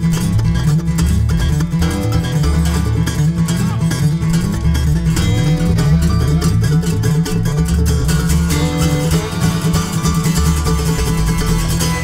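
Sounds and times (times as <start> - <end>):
bluegrass band playing: 0.0 - 12.0.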